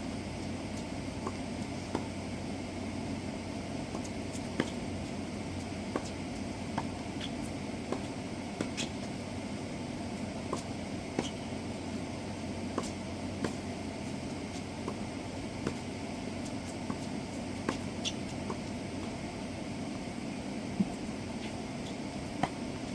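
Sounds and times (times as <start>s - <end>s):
steady background hum: 0.0s - 22.9s
tennis balls struck and bouncing: 0.4s - 2.5s, 3.8s - 9.2s, 10.3s - 19.2s, 20.8s - 22.9s.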